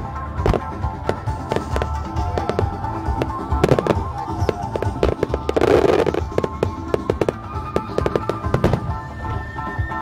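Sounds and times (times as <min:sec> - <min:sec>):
music: 0:00.0 - 0:10.0
fireworks bangs and crackles: 0:00.1 - 0:10.0.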